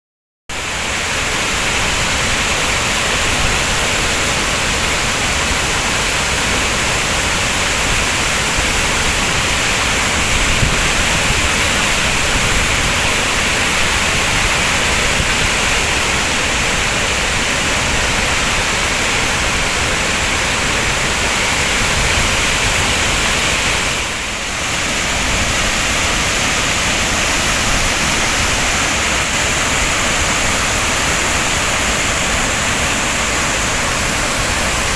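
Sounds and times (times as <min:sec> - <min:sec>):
waterfall rushing: 0:00.5 - 0:34.9.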